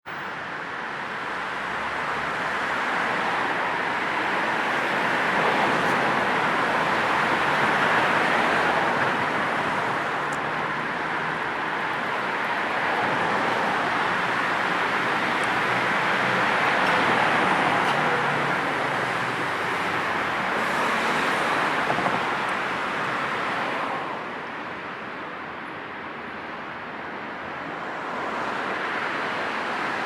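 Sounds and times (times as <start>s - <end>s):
road traffic passing: 0.1s - 30.0s.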